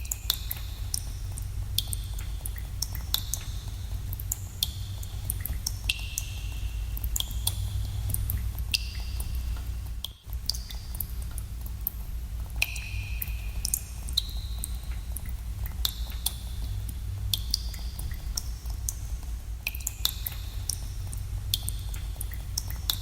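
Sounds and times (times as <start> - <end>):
steady low rumble: 0.0 - 19.7, 20.4 - 23.0
water drops plinking in cave: 0.0 - 23.0.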